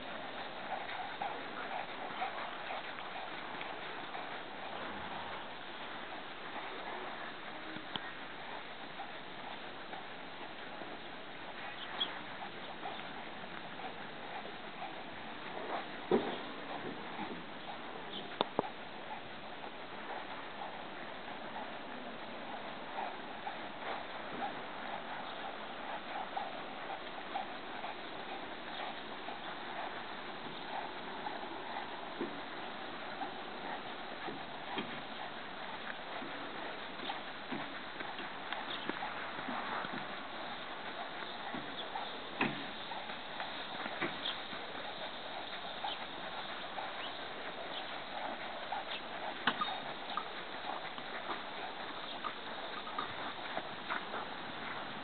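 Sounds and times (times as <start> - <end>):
horse hooves on dirt: 0.0 - 55.0
sharp hoof click: 0.0 - 55.0
steady hiss: 0.0 - 55.0.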